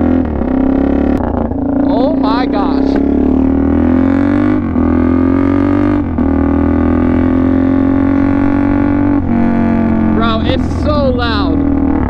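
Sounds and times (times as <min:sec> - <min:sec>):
motorcycle engine buzzing drone: 0:00.0 - 0:12.0.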